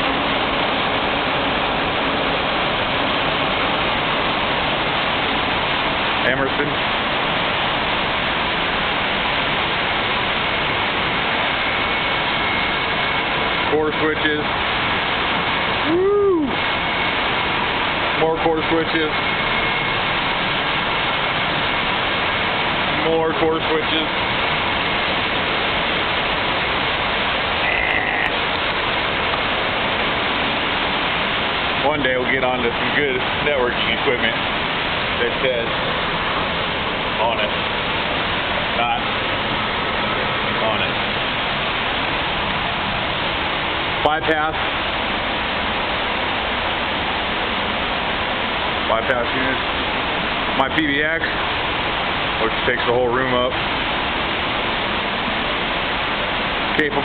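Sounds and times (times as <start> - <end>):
cooling fans hissing: 0.0 - 57.0.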